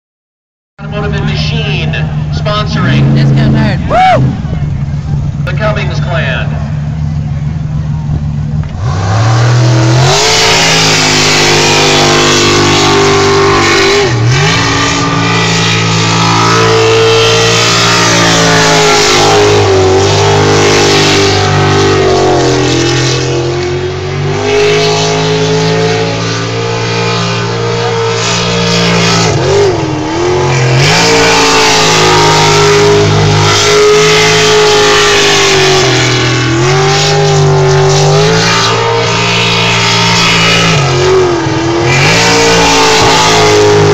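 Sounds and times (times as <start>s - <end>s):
boat engine racing: 0.8s - 43.9s.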